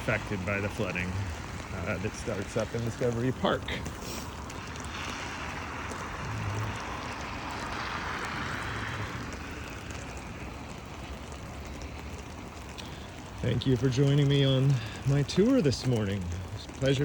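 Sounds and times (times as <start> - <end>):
low engine hum: 0.0 - 17.0
vehicle rushing through flood water: 0.0 - 17.0.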